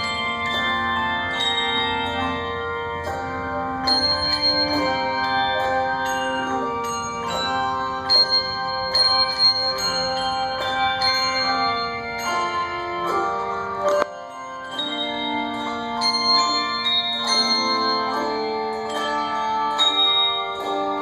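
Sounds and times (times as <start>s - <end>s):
handbell choir playing: 0.0s - 21.0s.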